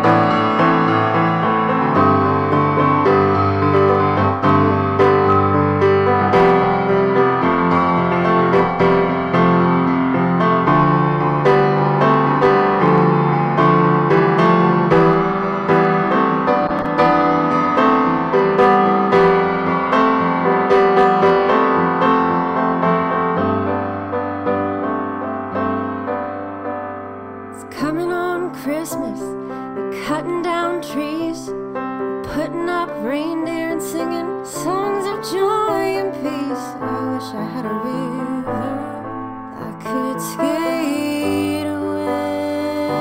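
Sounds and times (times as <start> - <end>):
solo piano playing: 0.0 - 43.0.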